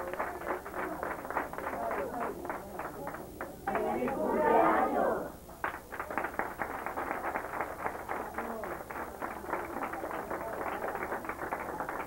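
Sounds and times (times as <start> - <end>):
group of people clapping: 0.0 - 12.0.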